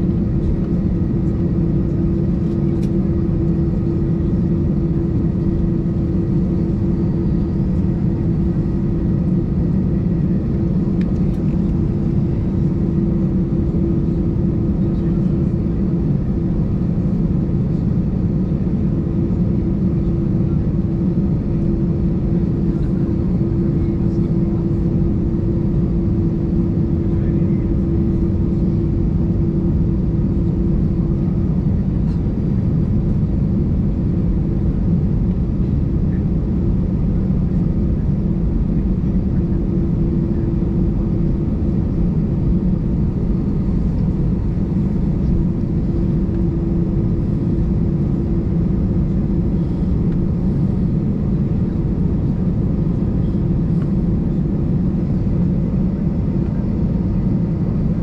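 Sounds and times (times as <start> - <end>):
jet engines idling rumble: 0.0 - 58.0.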